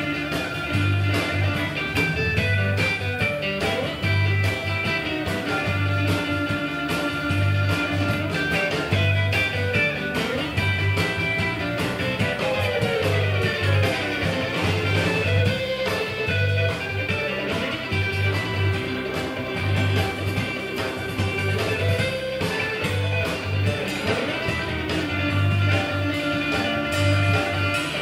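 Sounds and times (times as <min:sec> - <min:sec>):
drums: 0:00.0 - 0:28.0
electric bass: 0:00.0 - 0:28.0
electric guitar: 0:00.0 - 0:28.0
rock band playing: 0:00.0 - 0:28.0.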